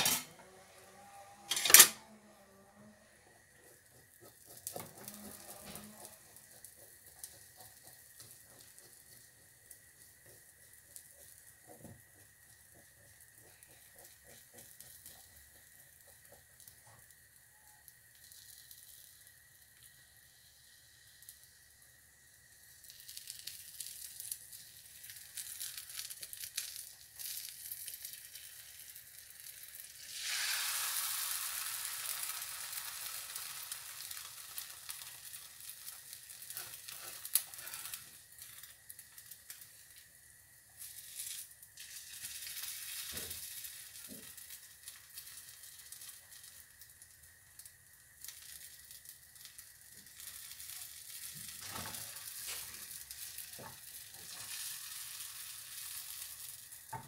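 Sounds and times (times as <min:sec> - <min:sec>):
omelette sizzling in frying pan: 0:00.0 - 0:57.0.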